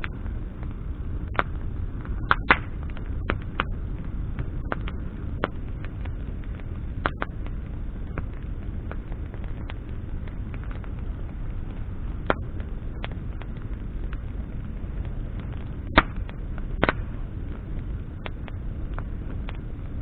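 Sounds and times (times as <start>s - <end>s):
campfire crackling and popping: 0.0s - 20.0s
low rumble of fire: 0.0s - 20.0s.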